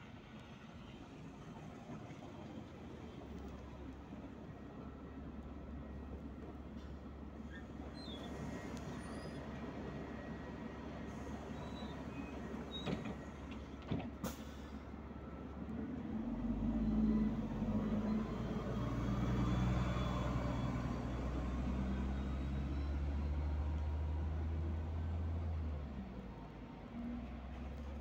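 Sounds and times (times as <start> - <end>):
bus engine drone: 0.0 - 28.0.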